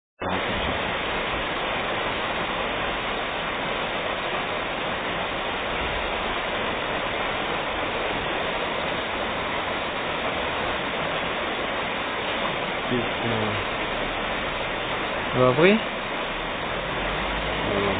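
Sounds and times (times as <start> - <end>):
river water rushing: 0.2 - 17.9.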